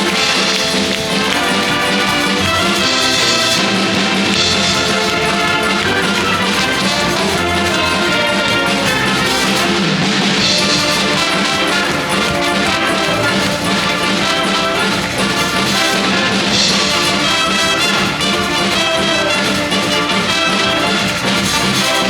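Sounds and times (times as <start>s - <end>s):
drum kit beat: 0.0s - 22.0s
wind band playing: 0.0s - 22.0s.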